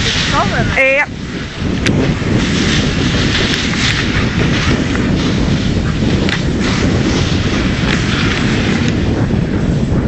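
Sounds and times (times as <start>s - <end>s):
sled runners scraping on snow: 0.0s - 10.0s
wind buffeting microphone: 0.0s - 10.0s.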